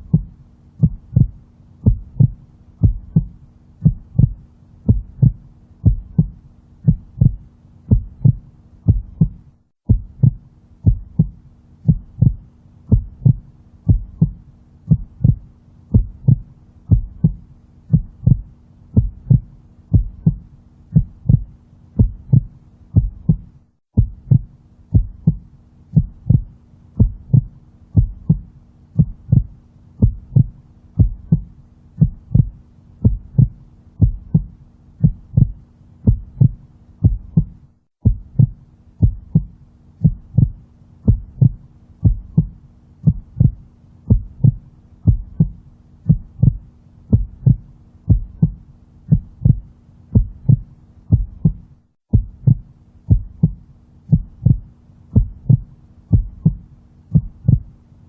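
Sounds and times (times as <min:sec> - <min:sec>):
heartbeat thumps: 0:00.0 - 0:57.8
faint steady hum: 0:00.0 - 0:58.0.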